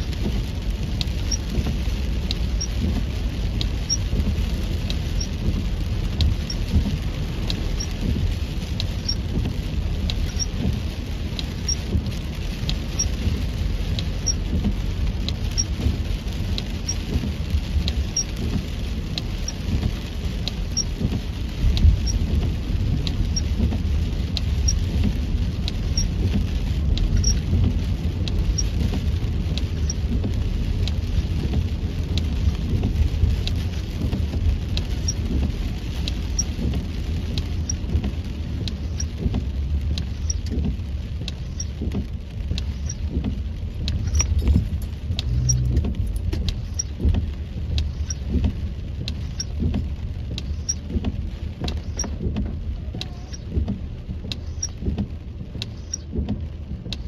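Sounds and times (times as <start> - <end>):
light ticking: 0.0 - 57.0
rain on a car: 0.0 - 57.0
road and engine rumble: 0.0 - 57.0.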